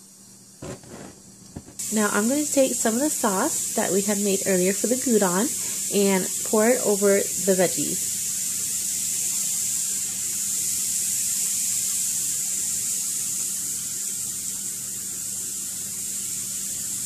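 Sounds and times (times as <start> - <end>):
sauce sizzling in skillet: 0.6 - 17.0.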